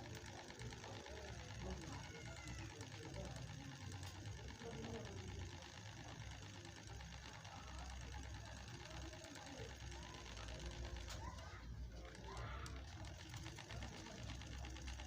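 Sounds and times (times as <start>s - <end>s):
small motor whirring: 0.0s - 15.0s.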